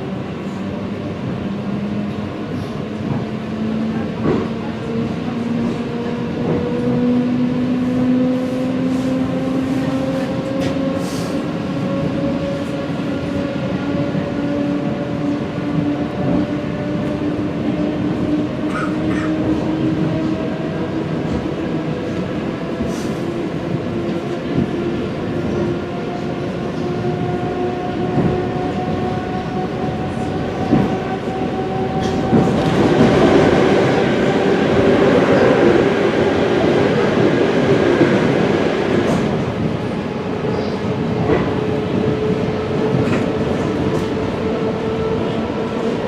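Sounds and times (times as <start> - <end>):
train wheels rumbling: 0.0 - 46.0.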